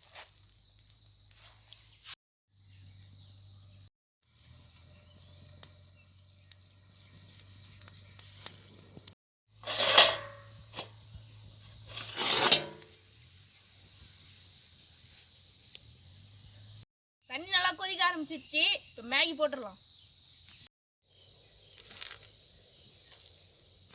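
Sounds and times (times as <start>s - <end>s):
crickets trilling: 0.0s - 23.9s.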